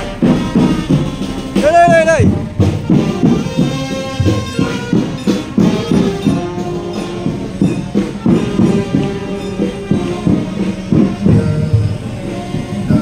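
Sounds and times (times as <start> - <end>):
percussion beats: 0.0 - 13.0
melody of held notes: 2.2 - 13.0.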